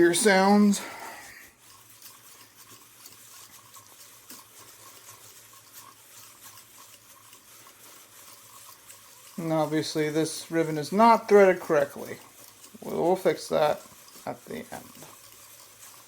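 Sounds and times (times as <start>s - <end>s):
ribbon spool ticking and rustling: 0.0s - 16.0s.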